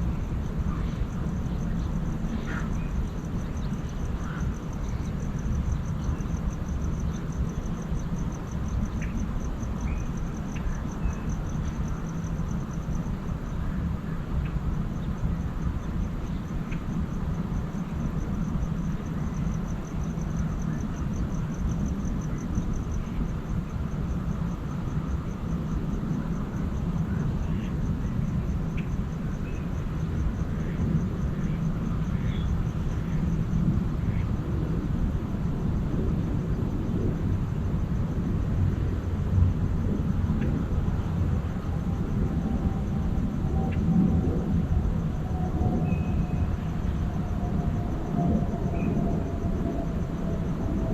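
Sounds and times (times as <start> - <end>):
low outdoor rumble: 0.0 - 50.9.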